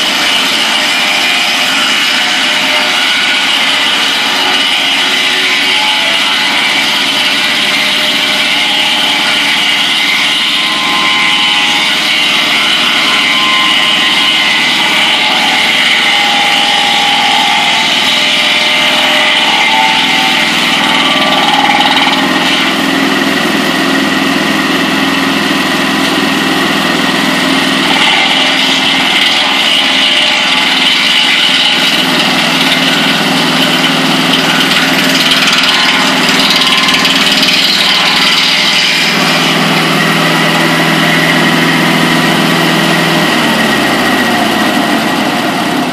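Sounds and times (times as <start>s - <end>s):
sawmill blade whining: 0.0s - 45.9s.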